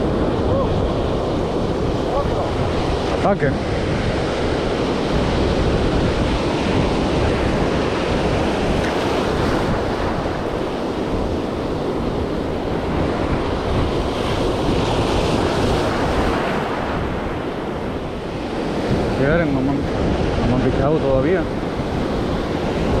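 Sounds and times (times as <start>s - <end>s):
wind on microphone: 0.0s - 23.0s.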